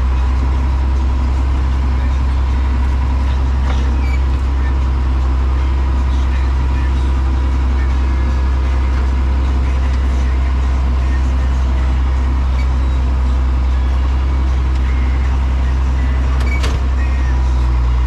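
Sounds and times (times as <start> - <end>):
tractor engine droning: 0.0 - 18.0.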